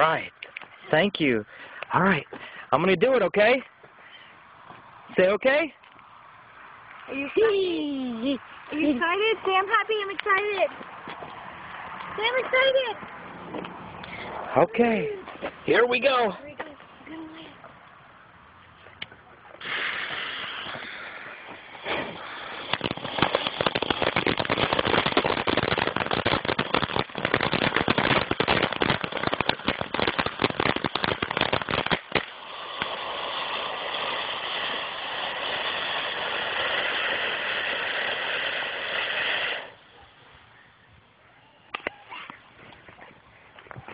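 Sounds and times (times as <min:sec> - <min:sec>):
firework hissing: 0:00.0 - 0:16.5, 0:19.0 - 0:40.6
firework crackling: 0:00.0 - 0:43.9.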